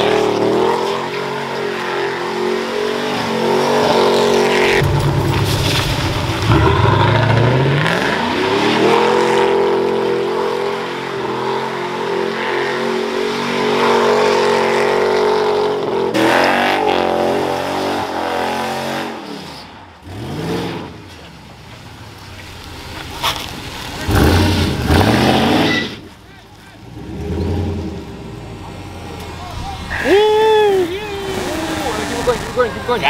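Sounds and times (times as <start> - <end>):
tires spinning: 0.0 - 33.0
truck engine revving: 0.0 - 33.0.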